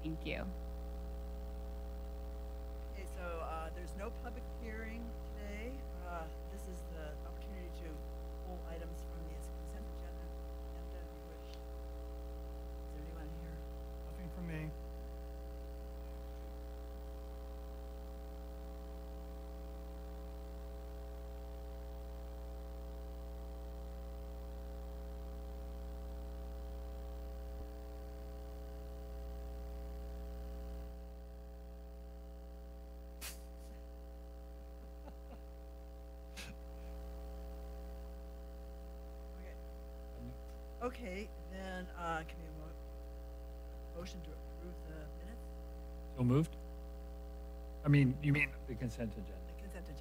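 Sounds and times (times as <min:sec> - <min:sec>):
electrical mains hum: 0:00.0 - 0:50.0.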